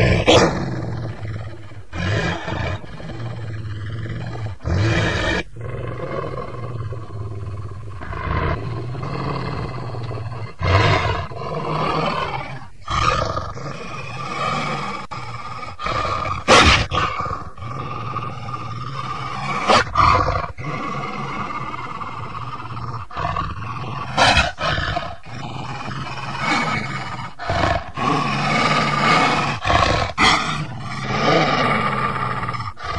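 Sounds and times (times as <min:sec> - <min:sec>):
wolves growling and snarling: 0:00.0 - 0:32.9.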